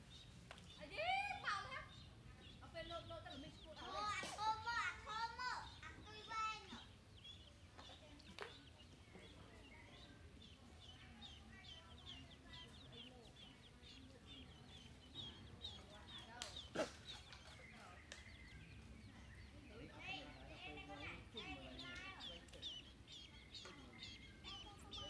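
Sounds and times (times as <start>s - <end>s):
chick peeping: 0.1s - 25.0s.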